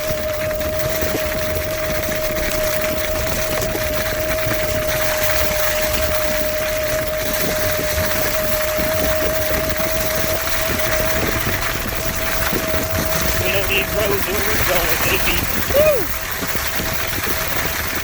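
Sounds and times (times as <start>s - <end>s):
constant rushing noise: 0.0s - 18.0s
electric motor whining: 0.0s - 18.0s.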